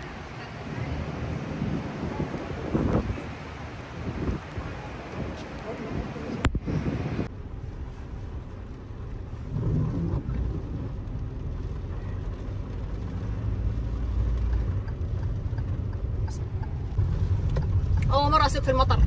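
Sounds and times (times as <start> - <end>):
car engine: 0.0 - 19.0
road rumble: 0.0 - 19.0.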